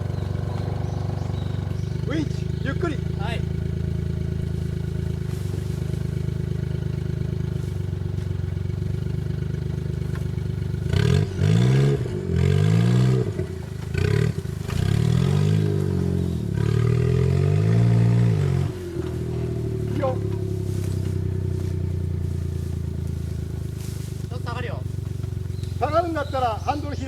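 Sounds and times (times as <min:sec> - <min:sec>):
small car engine idling and revving: 0:00.0 - 0:27.0.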